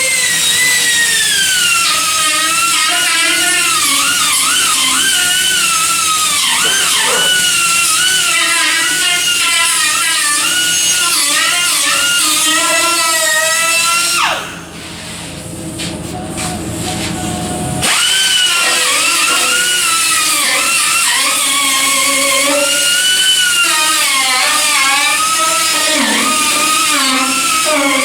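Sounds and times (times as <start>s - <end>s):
power tool whining on sheet metal: 0.0s - 15.4s, 16.3s - 28.0s.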